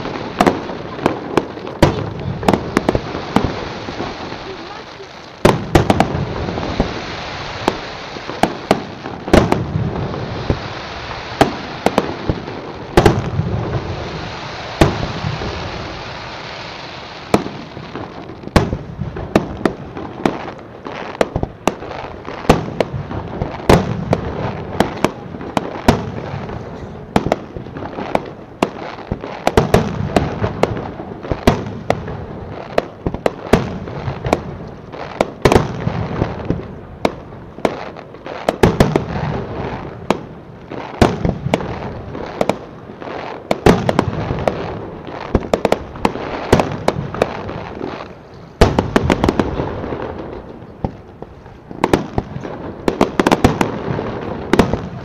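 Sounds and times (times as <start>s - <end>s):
firework bursts and bangs: 0.0s - 55.0s.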